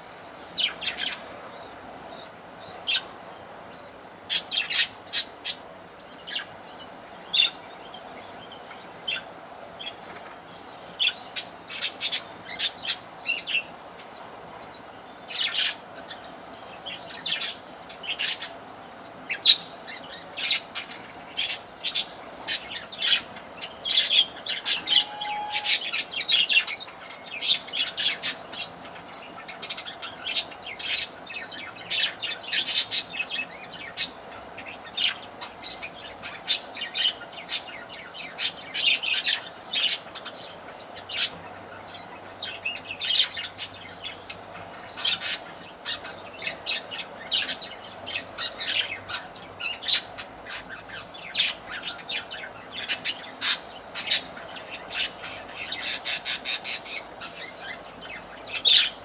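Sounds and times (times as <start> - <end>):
budgerigars chirping: 3.7 - 59.0.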